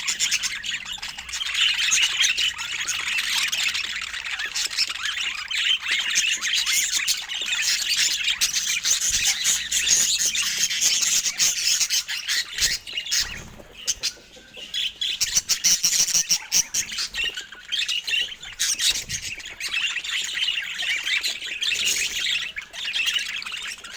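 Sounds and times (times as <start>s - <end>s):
budgerigars chattering: 0.0s - 23.9s.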